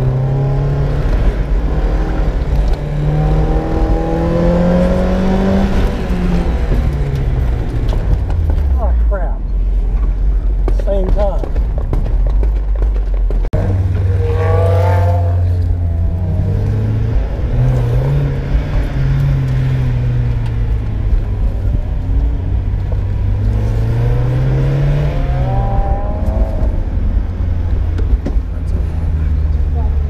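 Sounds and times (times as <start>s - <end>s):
car engine accelerating hard: 0.0s - 8.8s, 13.6s - 30.0s.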